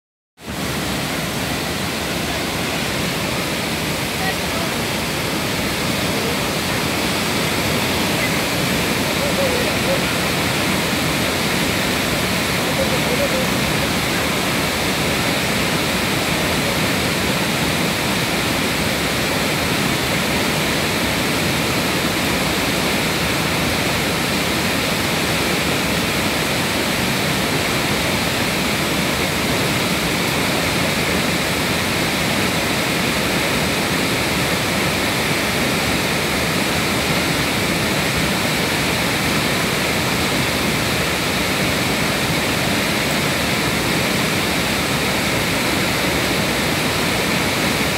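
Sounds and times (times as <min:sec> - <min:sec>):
flowing water rushing: 0:00.4 - 0:47.9.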